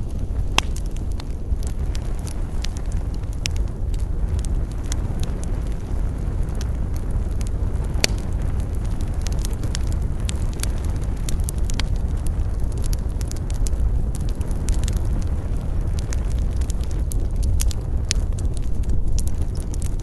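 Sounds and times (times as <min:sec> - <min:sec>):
campfire flames rumbling: 0:00.0 - 0:20.0
fire crackling and popping: 0:00.0 - 0:20.0.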